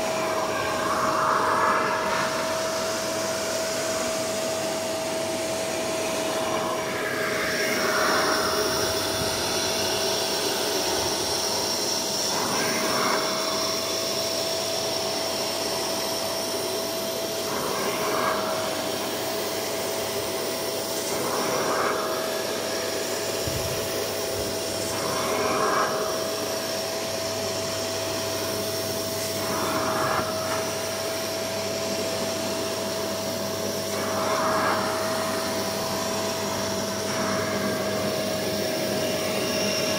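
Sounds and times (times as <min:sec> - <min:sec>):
nozzle suction on carpet: 0:00.0 - 0:39.9
vacuum cleaner motor whine: 0:00.0 - 0:39.9.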